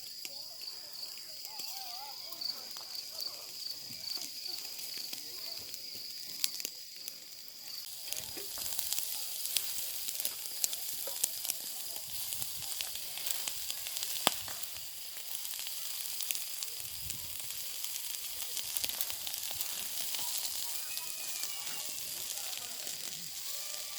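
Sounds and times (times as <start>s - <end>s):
fat crackling and popping: 0.0s - 23.9s
kebab sizzling on grill: 0.0s - 23.9s.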